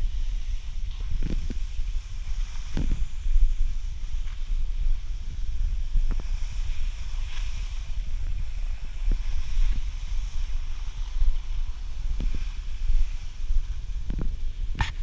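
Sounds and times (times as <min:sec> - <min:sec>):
skis hissing on snow: 0:00.0 - 0:15.0
wind buffeting microphone: 0:00.0 - 0:15.0.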